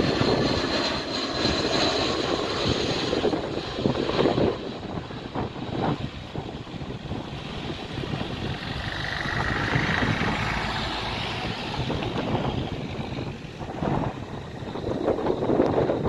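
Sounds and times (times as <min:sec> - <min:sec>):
jet engine noise: 0:00.0 - 0:16.0
wind buffeting the microphone: 0:00.0 - 0:16.0.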